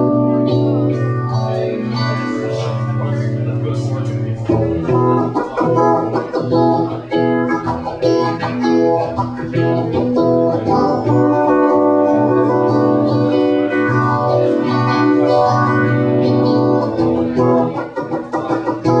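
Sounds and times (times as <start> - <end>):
guitar playing: 0.0 - 19.0.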